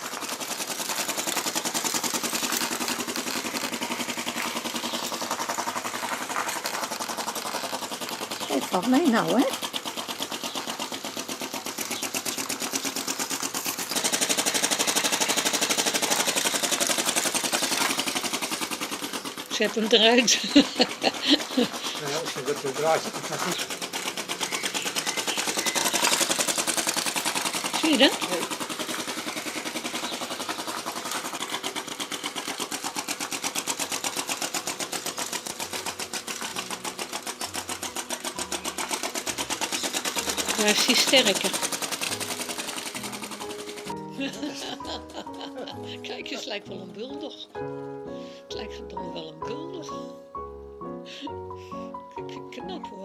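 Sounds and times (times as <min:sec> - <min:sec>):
small model engine clattering: 0:00.0 - 0:47.8
fast mechanical ticking: 0:00.0 - 0:49.9.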